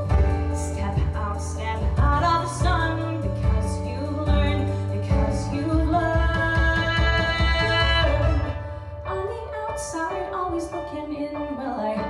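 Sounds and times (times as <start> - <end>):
musical accompaniment with bass: 0.0 - 12.0
woman singing into microphone: 0.0 - 12.0.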